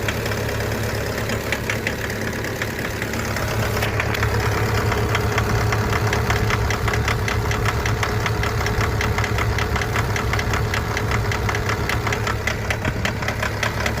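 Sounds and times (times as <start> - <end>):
pickup engine idling with ticking: 0.0 - 14.0.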